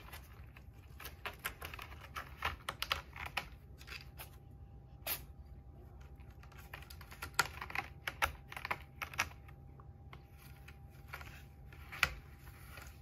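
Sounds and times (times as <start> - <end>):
cats scratching cardboard: 0.0 - 13.0.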